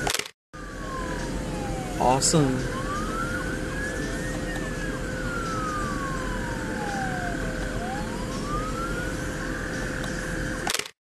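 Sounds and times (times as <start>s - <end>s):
emergency siren wailing: 0.6s - 10.7s
steady hum: 0.6s - 10.7s.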